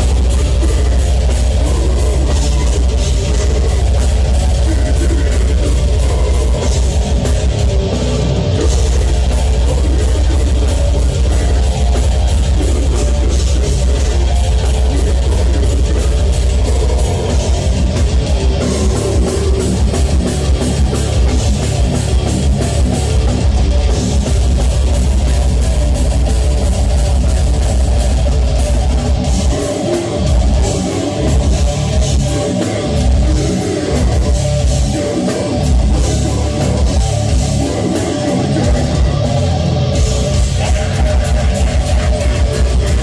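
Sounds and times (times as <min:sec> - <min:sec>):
heavy metal band playing: 0:00.0 - 0:43.0.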